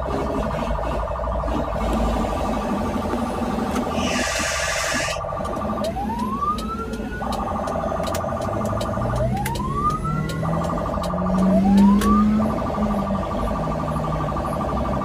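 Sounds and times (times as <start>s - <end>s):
ambulance engine speeding up: 0.0s - 15.0s
ambulance siren: 0.0s - 15.0s.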